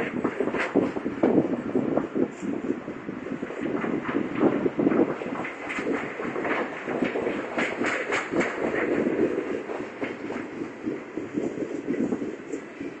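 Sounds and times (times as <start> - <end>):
freight train rumbling on rails: 0.0 - 13.0
train wheel clatter: 0.0 - 13.0.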